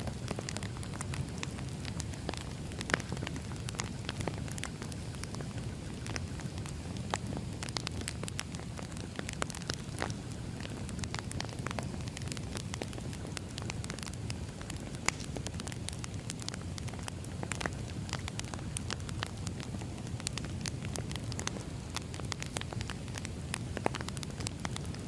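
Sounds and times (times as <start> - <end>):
log fire crackling and popping: 0.0 - 25.0
low rumble of flames: 0.0 - 25.0.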